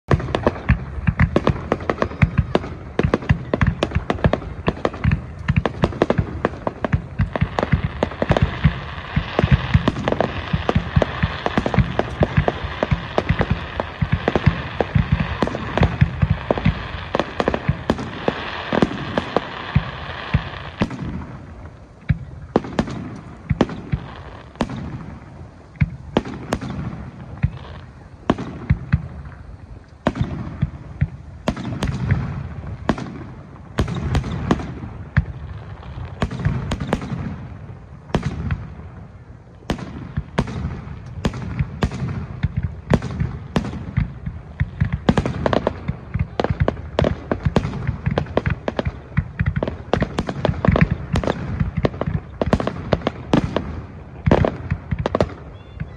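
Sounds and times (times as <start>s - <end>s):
fireworks crackling: 0.0s - 55.9s.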